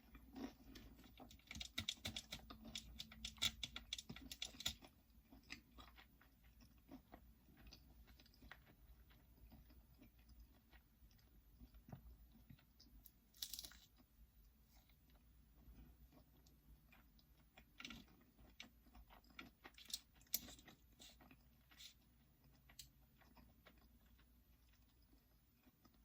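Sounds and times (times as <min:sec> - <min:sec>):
person chewing and crunching food: 0:00.0 - 0:26.0.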